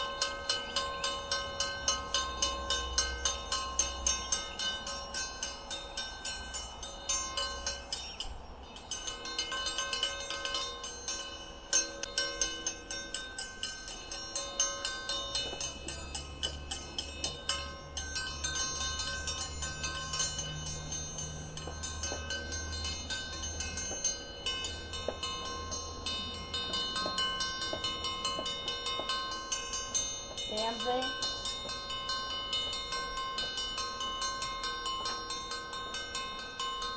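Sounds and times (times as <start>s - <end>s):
hand bell ringing rapidly: 0.0s - 36.9s.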